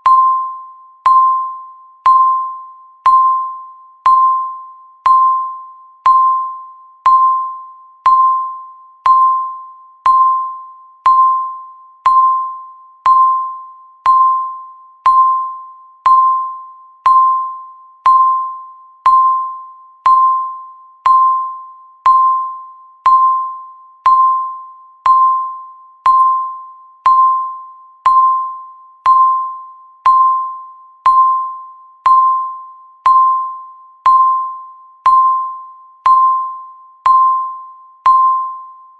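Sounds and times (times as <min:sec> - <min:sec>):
timer beeping with clicks: 0:00.0 - 0:38.9.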